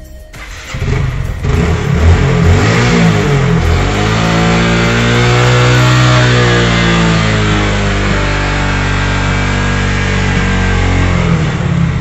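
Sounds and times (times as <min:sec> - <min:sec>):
motorcycle engine starting and idling: 0:00.3 - 0:12.0.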